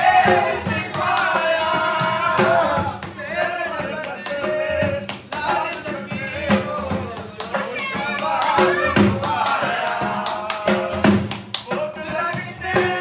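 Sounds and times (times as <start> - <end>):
barrel drum beaten with sticks: 0.0 - 13.0.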